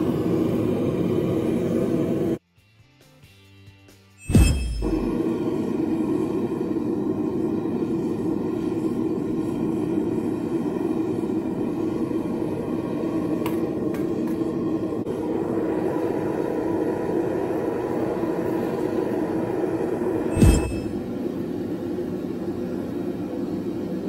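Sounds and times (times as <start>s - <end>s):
furnace burner rushing: 0.0s - 2.4s, 4.2s - 24.0s.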